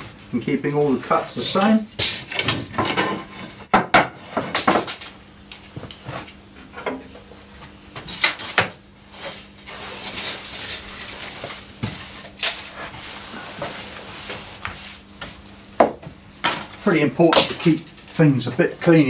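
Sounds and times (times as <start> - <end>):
wood and tools knocking and scraping: 1.6 - 18.7.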